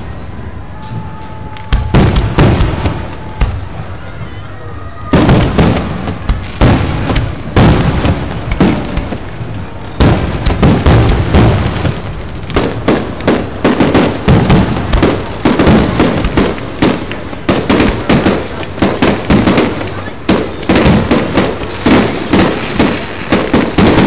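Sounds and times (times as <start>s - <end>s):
fireworks bursting with loud bangs: 0.0s - 24.0s.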